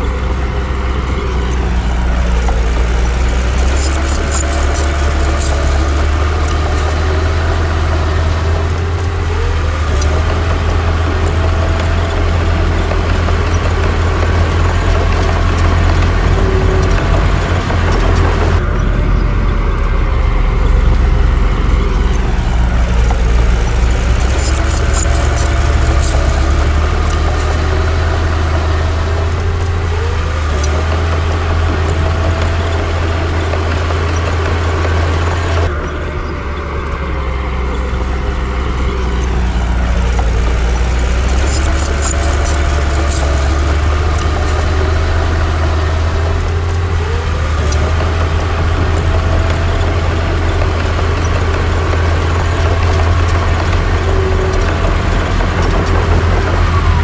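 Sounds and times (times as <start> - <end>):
light metallic clinks: 0.0 - 36.0, 36.8 - 57.0
bulldozer diesel engine droning: 0.0 - 57.0.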